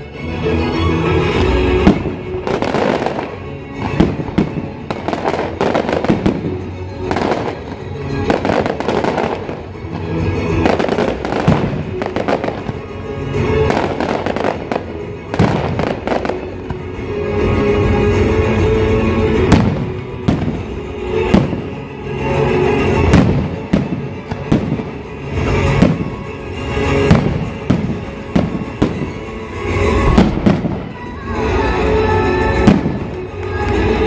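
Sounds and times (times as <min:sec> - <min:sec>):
music: 0:00.0 - 0:34.0
fireworks bursting and crackling: 0:01.1 - 0:34.0.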